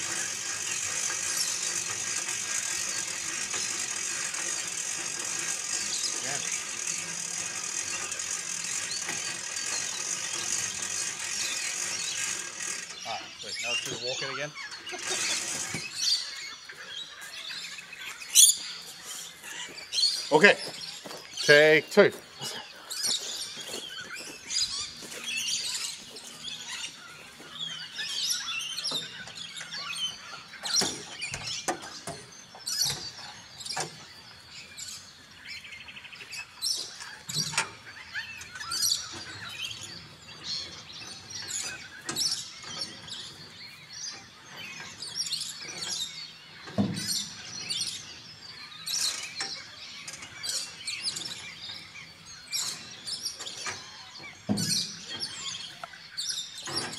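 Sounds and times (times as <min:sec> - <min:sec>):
birds chirping and calling: 0:00.0 - 0:56.9.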